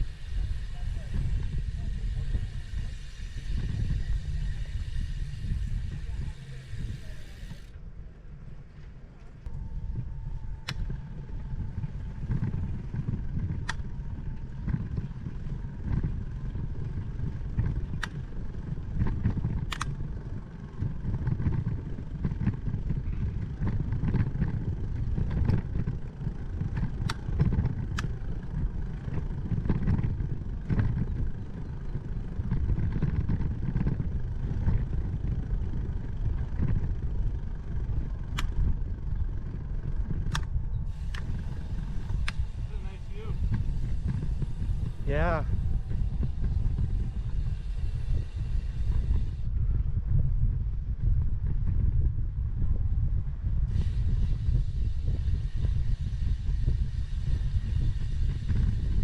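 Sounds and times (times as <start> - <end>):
wind on microphone: 0.0 - 8.6, 9.4 - 59.0
bicycle tyre noise: 0.0 - 59.0
bike clicks and rattles: 0.0 - 59.0.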